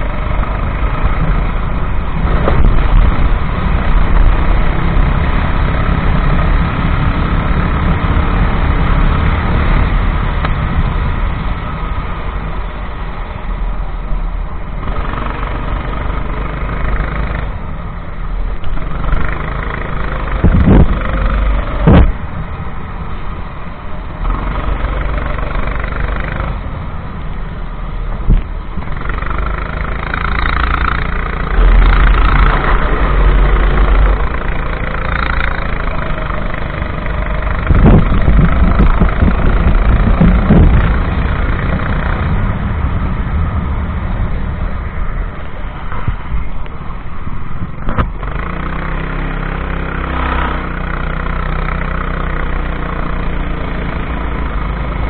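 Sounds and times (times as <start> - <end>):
go-kart engine revving: 0.0 - 12.5, 14.6 - 22.8, 24.0 - 27.4, 28.0 - 46.4, 47.9 - 55.0
low engine rumbling surges: 0.0 - 55.0.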